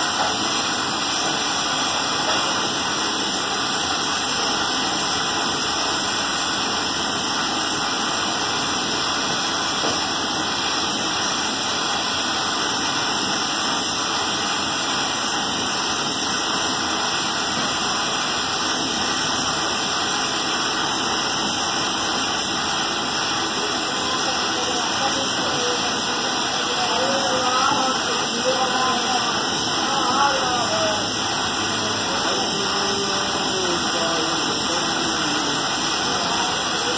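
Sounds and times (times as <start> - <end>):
welding torch flame hissing: 0.0 - 36.9.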